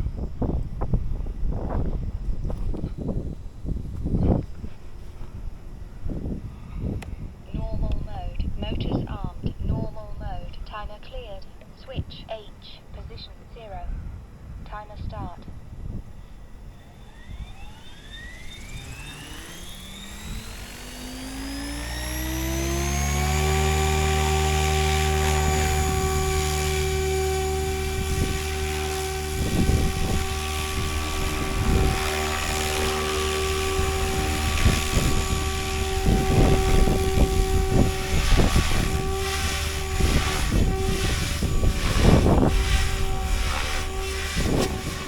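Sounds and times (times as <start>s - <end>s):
rushing rotor noise: 0.0s - 11.8s, 15.5s - 45.0s
helicopter motor whine: 0.0s - 45.0s.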